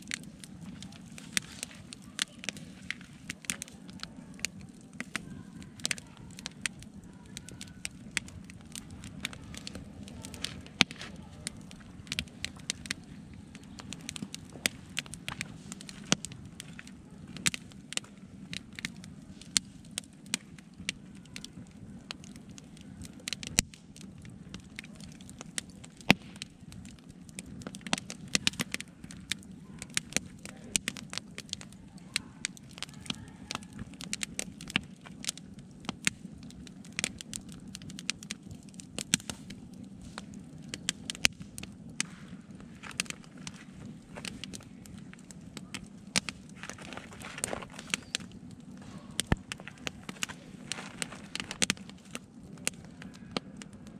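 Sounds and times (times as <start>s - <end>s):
campfire crackling: 0.0s - 53.9s
low rush of fire: 0.0s - 53.9s
sharp fire pops: 0.0s - 53.9s.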